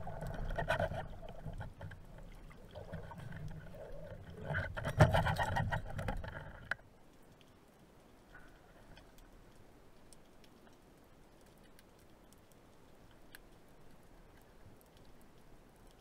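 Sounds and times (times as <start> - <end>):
tiny underwater clicks: 0.0 - 16.0.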